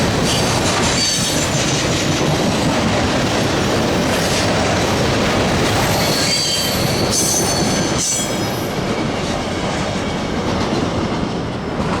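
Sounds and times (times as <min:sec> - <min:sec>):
freight train rolling by: 0:00.0 - 0:12.0.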